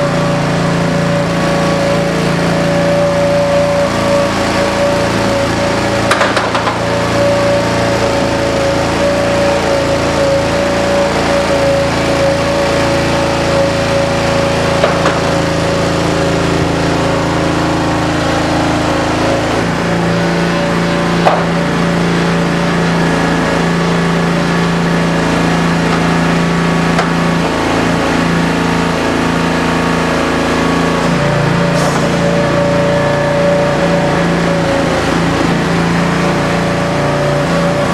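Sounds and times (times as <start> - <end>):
gas engine running: 0.0 - 37.9.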